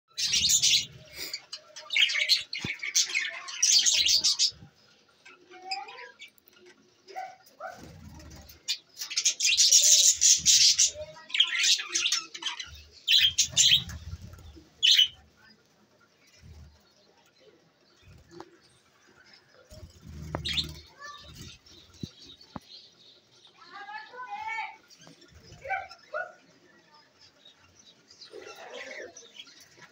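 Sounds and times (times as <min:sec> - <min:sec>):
budgerigars chirping and chattering: 0:00.1 - 0:29.9.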